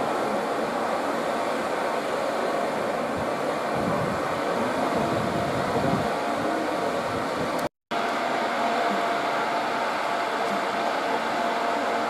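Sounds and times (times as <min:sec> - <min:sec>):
steady rushing air noise: 0:00.0 - 0:12.0.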